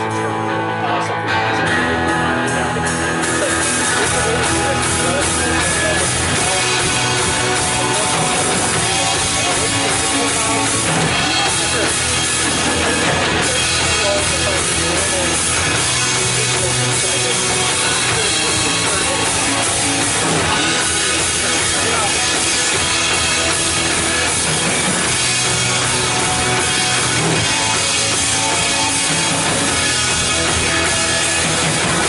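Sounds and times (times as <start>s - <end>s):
band playing instrumental: 0.0s - 32.0s
drum kit: 0.0s - 32.0s.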